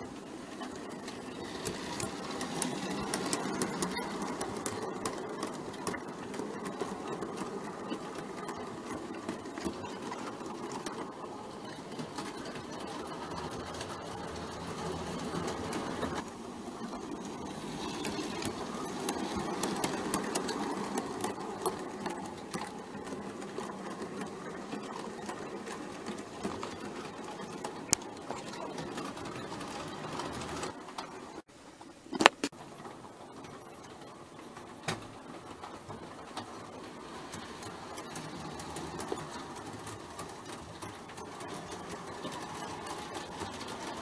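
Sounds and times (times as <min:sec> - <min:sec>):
model train wheels clicking on track: 0:00.0 - 0:31.5, 0:32.5 - 0:44.0.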